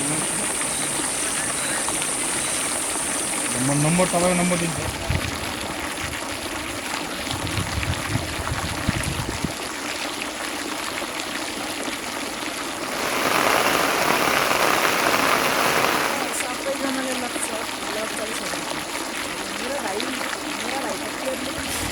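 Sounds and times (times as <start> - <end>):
running water: 0.0 - 21.9.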